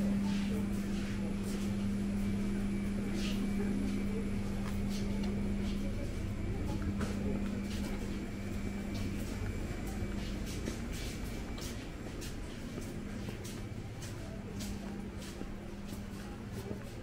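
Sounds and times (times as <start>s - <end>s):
distant voices: 0.0s - 17.0s
steady low hum: 0.0s - 17.0s.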